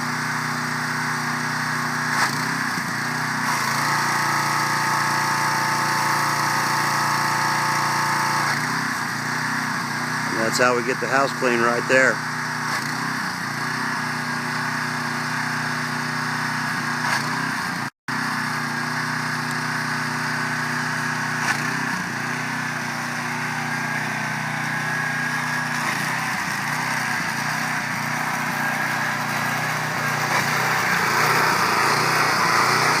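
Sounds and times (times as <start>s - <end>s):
pressure washer engine running: 0.0s - 33.0s.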